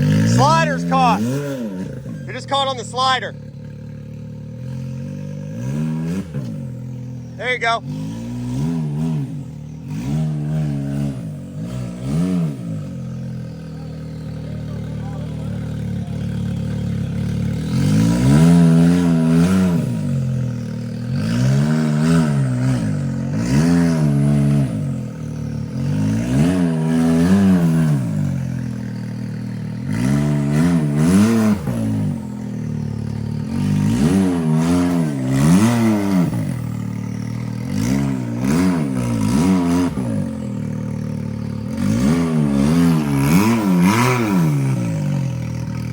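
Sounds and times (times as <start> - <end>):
utility vehicle engine revving: 0.0 - 45.9.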